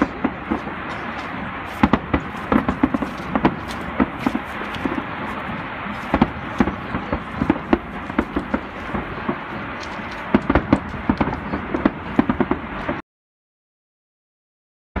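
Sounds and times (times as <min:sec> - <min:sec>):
fireworks cracking and popping: 0:00.0 - 0:13.0
steady hiss: 0:00.0 - 0:13.0.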